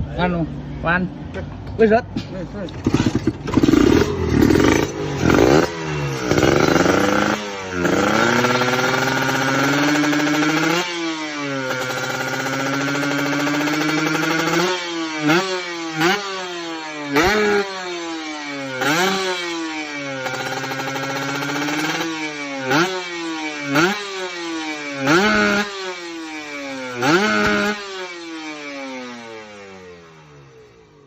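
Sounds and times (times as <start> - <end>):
two-stroke motorcycle engine revving: 2.6 - 31.0.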